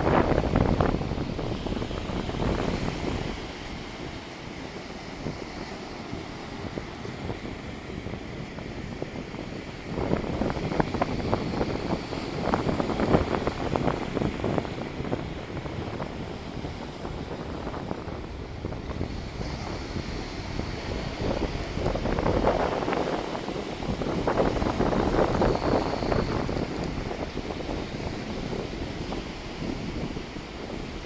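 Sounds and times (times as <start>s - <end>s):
sea waves on the shore: 0.0s - 31.0s
wind buffeting the microphone: 0.0s - 31.0s.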